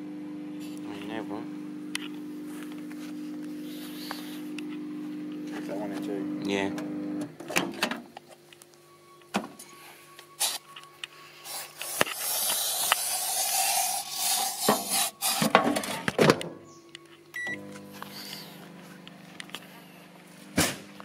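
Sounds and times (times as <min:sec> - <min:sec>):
microwave hum: 0:00.0 - 0:13.2, 0:14.6 - 0:21.0.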